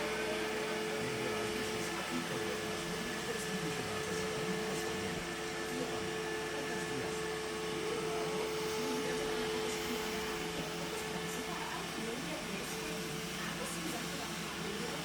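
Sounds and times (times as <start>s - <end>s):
robot vacuum motor hum: 0.0s - 15.0s
whirring fan: 0.0s - 15.0s.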